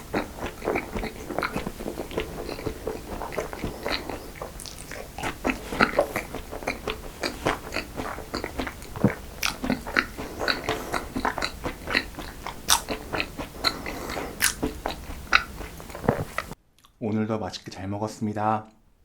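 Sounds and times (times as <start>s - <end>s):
eating with crisp chewing: 0.0s - 17.0s.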